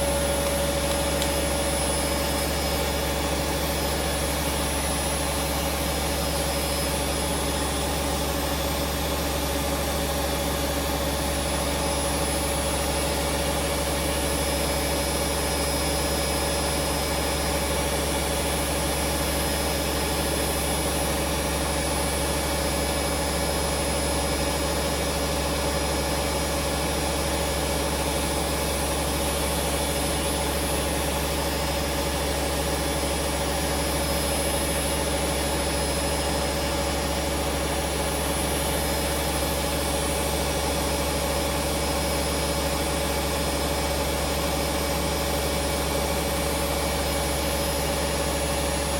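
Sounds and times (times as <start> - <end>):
washing machine running: 0.0 - 48.9.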